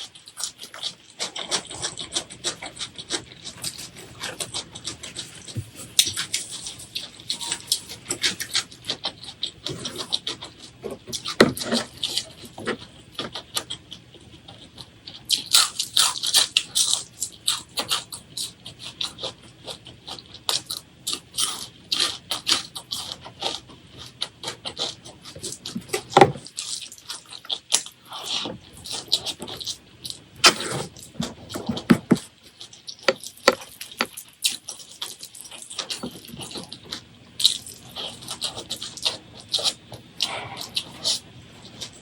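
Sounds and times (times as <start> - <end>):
person chewing crunchy food: 0.0 - 42.0.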